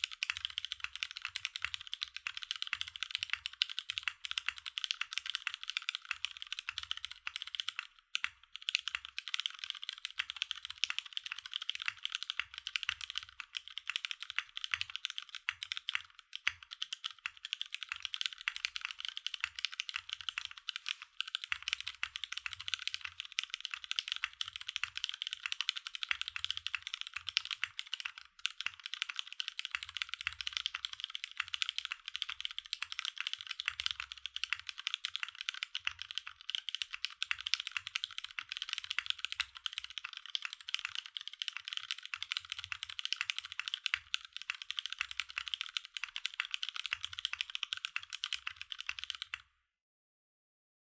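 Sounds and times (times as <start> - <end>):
fast mechanical keyboard typing: 0.0 - 49.5.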